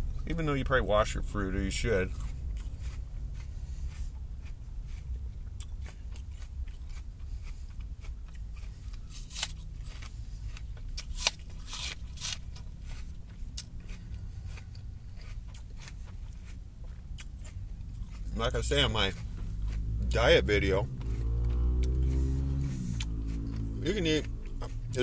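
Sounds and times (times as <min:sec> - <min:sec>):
low background rumble: 0:00.0 - 0:25.0
apple crunching: 0:00.3 - 0:25.0.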